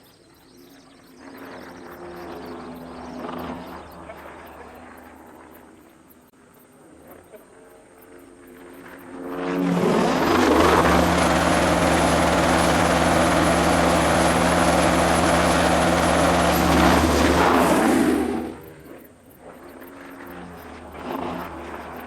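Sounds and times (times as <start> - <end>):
helicopter turbine and rotor: 0.2 - 22.0.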